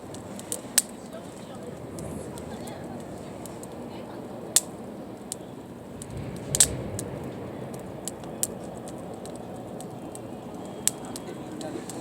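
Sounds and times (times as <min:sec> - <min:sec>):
campfire crackling and popping: 0:00.0 - 0:12.0
steady low rush: 0:00.0 - 0:12.0.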